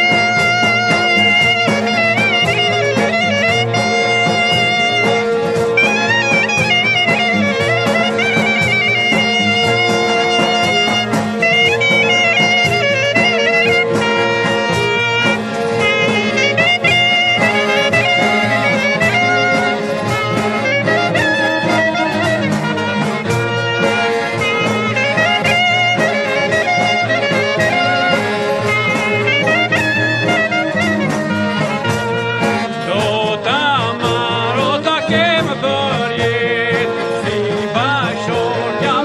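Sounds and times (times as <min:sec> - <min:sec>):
accordion chords: 0:00.0 - 0:39.0
steady drum beat: 0:00.0 - 0:39.0
wind instrument melody: 0:00.0 - 0:39.0.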